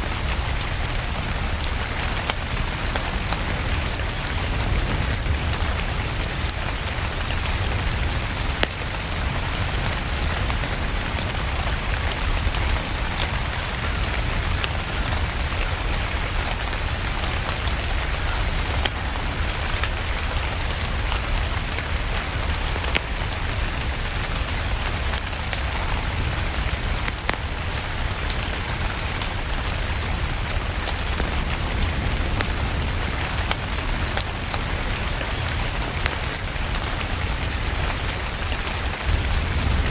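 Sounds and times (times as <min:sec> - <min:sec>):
steady rain: 0:00.0 - 0:39.9
wood fire popping and crackling: 0:00.0 - 0:39.9.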